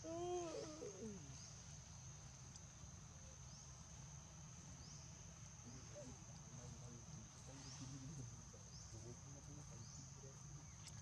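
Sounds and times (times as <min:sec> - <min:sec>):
faint low murmur: 0:00.0 - 0:11.0
high insect drone: 0:00.0 - 0:11.0.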